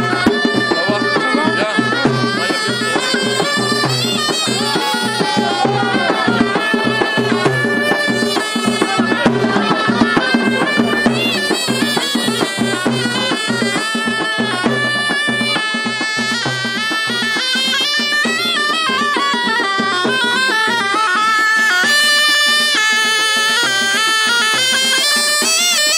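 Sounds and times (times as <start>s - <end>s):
reed pipe playing folk melody: 0.0s - 25.9s.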